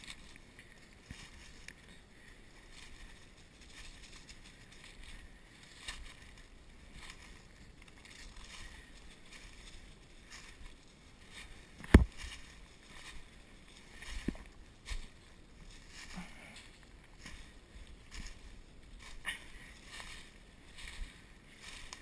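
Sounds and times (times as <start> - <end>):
footsteps in dry leaves: 0.0 - 22.0.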